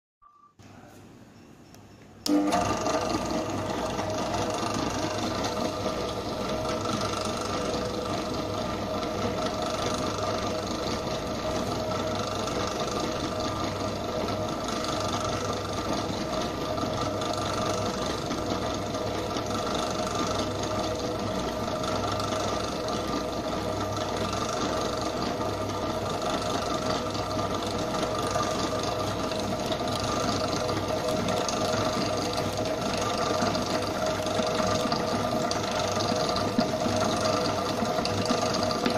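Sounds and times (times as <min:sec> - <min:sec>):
mixer motor whining: 0:02.2 - 0:38.9.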